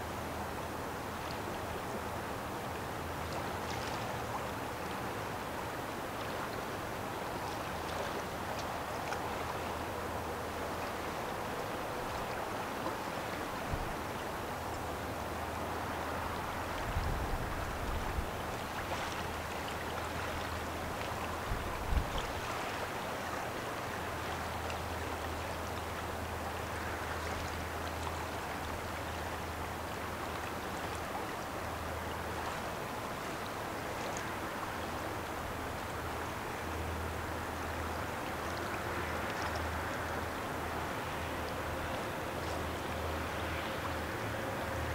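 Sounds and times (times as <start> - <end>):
river current rushing: 0.0 - 44.9.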